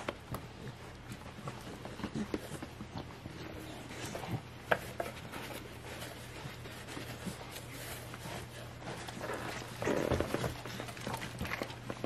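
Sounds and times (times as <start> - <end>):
bedding rustling and rubbing: 0.0 - 12.0.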